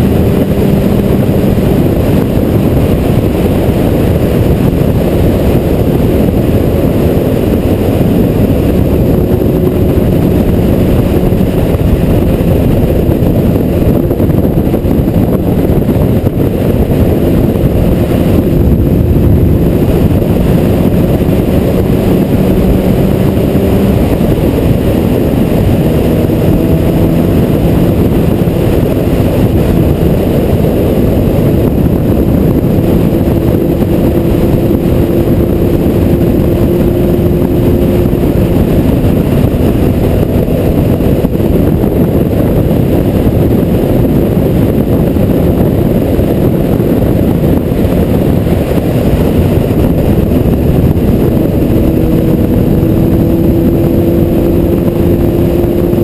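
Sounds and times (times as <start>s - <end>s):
motorcycle engine droning: 0.0s - 56.0s
wind rush buffeting camera: 0.0s - 56.0s.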